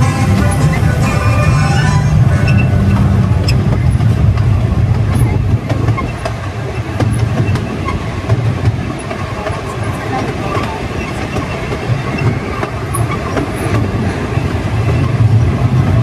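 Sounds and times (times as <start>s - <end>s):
ride cars rumbling on track: 0.0s - 16.0s.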